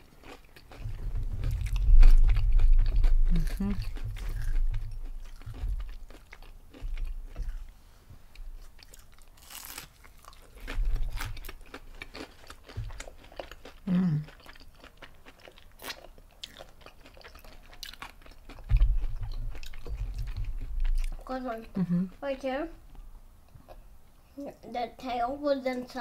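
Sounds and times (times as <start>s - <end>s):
crunchy chewing: 0.0s - 21.3s
soft chewing thuds: 0.0s - 23.9s.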